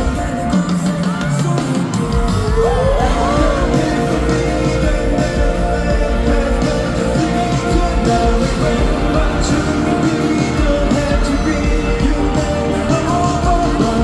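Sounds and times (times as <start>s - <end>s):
live rock band music: 0.0s - 14.0s
person singing: 0.0s - 14.0s.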